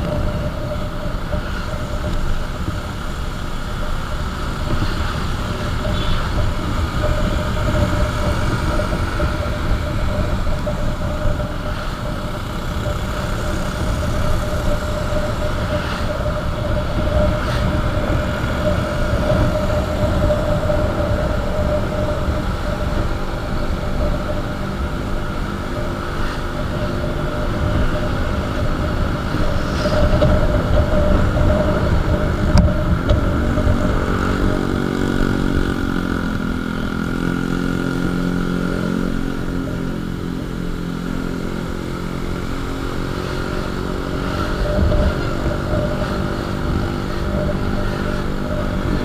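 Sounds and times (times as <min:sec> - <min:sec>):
motorcycle engine drone: 0:00.0 - 0:49.0
road rumble: 0:00.0 - 0:49.0
wind on microphone: 0:00.0 - 0:49.0.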